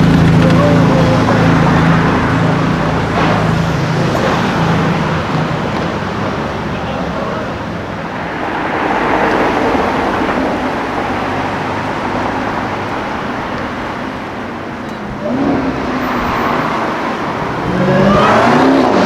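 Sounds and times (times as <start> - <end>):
car engine revving: 0.0 - 19.0
traffic noise: 0.0 - 19.0.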